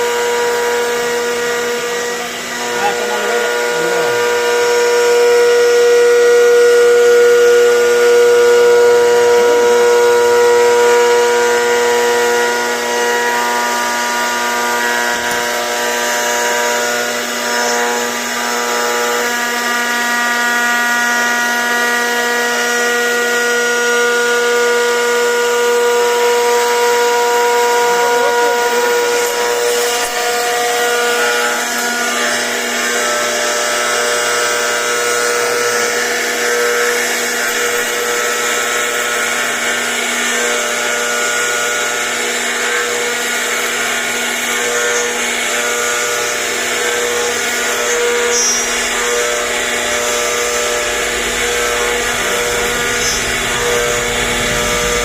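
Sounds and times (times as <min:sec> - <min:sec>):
cnc router spindle whine: 0:00.0 - 0:55.0.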